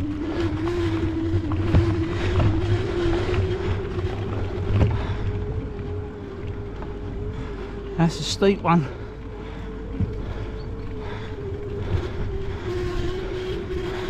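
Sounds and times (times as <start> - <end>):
e-bike motor whining: 0.0 - 14.0
low rumble: 0.0 - 14.0.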